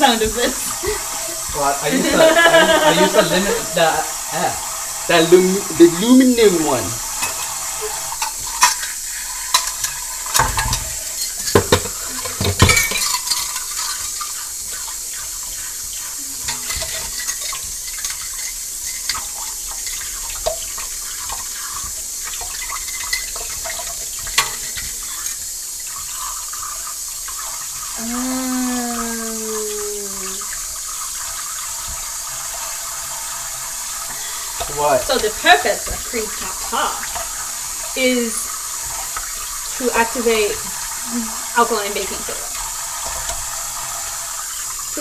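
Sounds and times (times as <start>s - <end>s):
faucet running into a sink: 0.0s - 45.0s.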